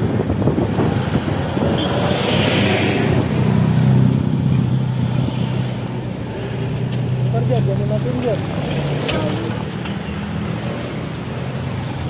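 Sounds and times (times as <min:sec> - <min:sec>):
bus engine with growling exhaust: 0:00.0 - 0:12.0.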